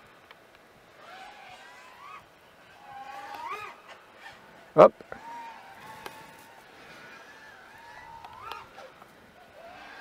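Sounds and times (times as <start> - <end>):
drone motors whining: 0.9 - 10.0.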